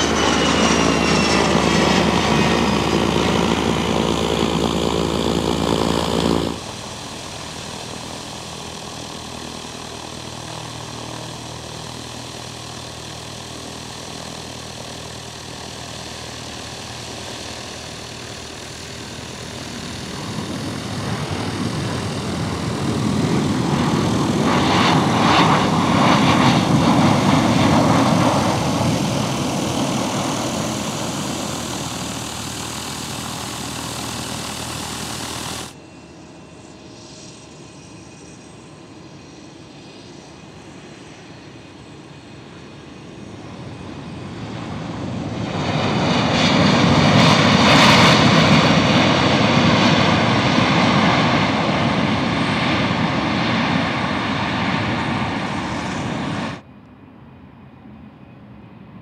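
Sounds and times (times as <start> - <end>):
steady jet noise: 0.0 - 56.7
jet engines at takeoff power: 0.0 - 59.0
propeller plane engine: 0.0 - 59.0.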